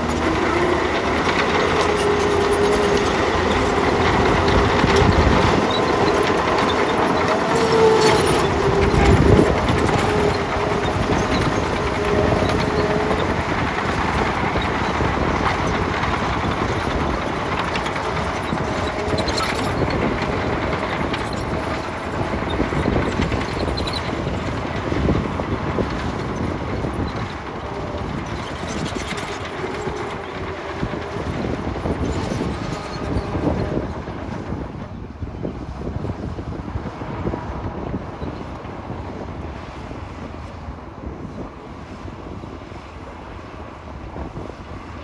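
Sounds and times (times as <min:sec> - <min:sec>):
diesel engine rumble: 0:00.0 - 0:45.0.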